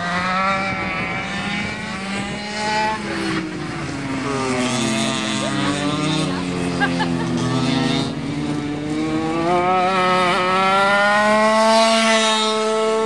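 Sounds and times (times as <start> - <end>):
go-kart engine revving: 0.0 - 13.0.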